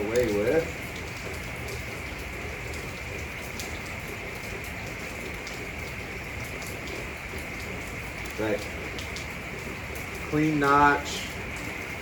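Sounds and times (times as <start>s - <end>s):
raindrop taps: 0.0s - 12.0s
steady rain hiss: 0.0s - 12.0s.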